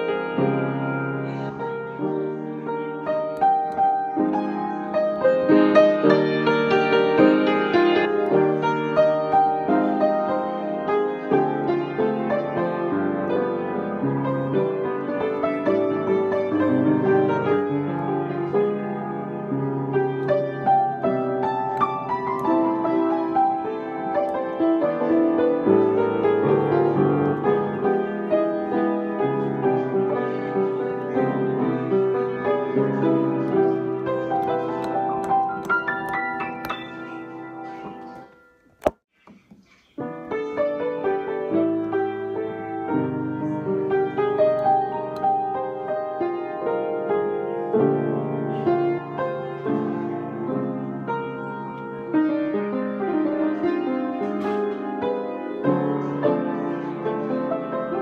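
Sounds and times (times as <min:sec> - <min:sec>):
gentle piano music: 0:00.0 - 0:39.1, 0:39.9 - 0:58.0.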